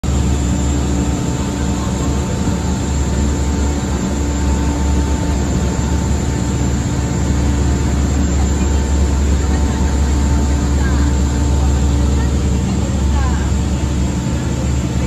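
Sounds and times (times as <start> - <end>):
churning water: 0.0 - 15.0
ferry engines droning: 0.0 - 15.0.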